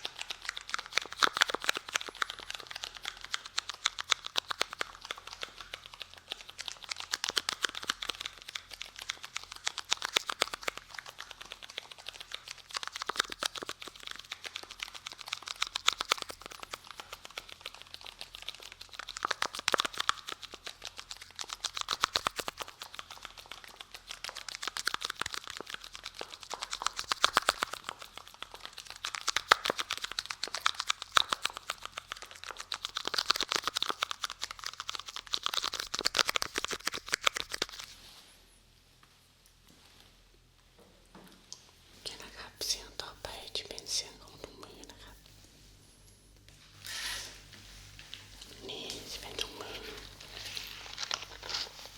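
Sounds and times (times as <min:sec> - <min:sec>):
crinkling and scratching: 0:00.0 - 0:40.2, 0:46.4 - 0:51.9.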